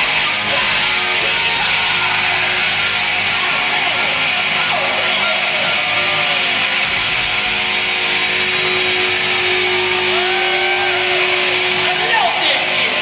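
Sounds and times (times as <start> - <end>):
live hard rock band: 0.0 - 13.0.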